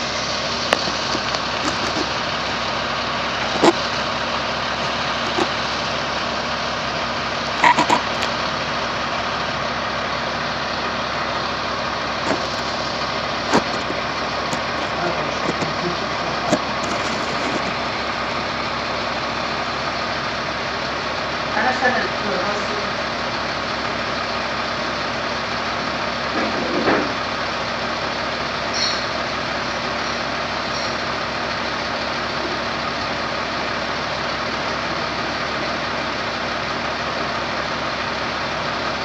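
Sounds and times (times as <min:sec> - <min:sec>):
steady mechanical noise: 0:00.0 - 0:39.0.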